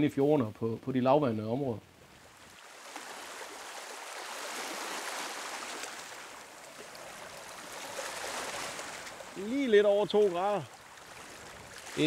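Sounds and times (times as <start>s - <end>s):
sea water lapping on stony shore: 2.0s - 12.0s.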